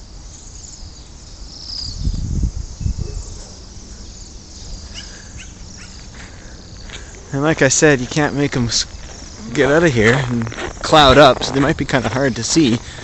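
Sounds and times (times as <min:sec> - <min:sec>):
birds trilling calls: 0:00.0 - 0:13.0.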